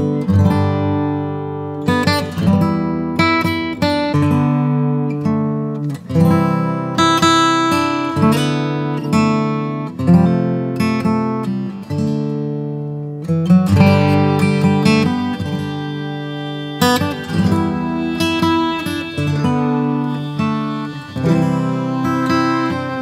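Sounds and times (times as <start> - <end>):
strummed acoustic guitar chords: 0.0 - 23.0.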